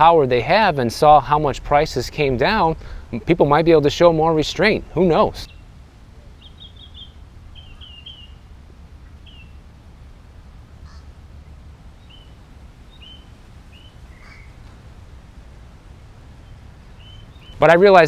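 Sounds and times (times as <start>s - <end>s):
birds chirping: 0.0s - 18.0s
steady low rumble: 0.0s - 18.0s.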